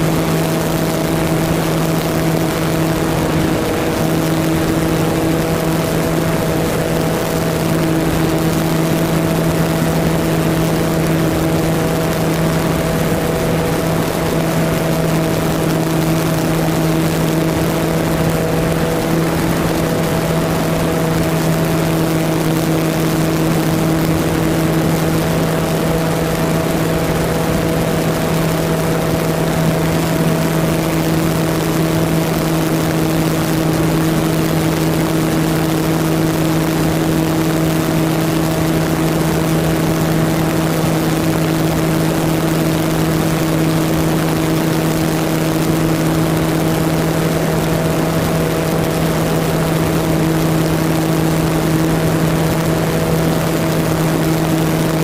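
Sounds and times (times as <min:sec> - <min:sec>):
airflow rushing: 0:00.0 - 0:55.0
model airplane motor humming: 0:00.0 - 0:55.0.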